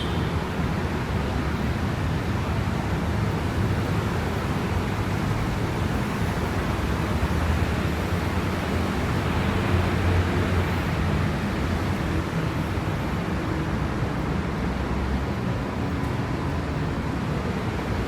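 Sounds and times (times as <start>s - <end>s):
street noise wash: 0.0s - 18.0s
traffic rumble: 0.0s - 18.0s.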